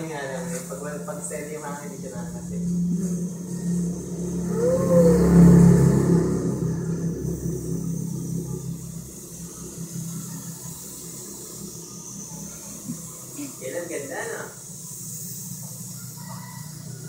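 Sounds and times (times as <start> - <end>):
toy helicopter rotors whirring: 0.0 - 17.0.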